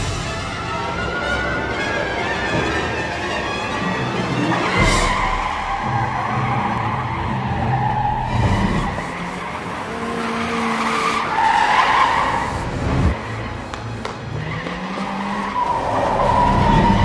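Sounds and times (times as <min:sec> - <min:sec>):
car tyres squealing: 0:00.3 - 0:17.0.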